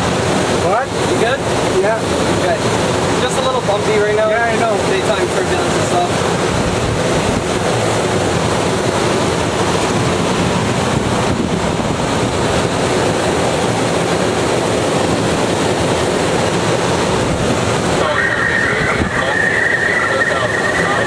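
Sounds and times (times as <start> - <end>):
airflow rushing around cockpit: 0.0 - 21.0.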